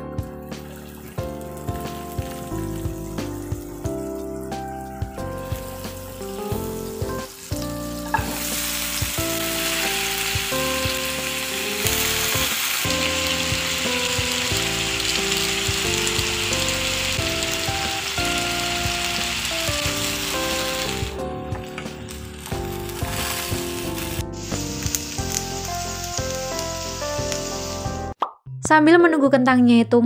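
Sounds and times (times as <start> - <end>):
oil sizzling in frying pan: 0.2 - 28.2.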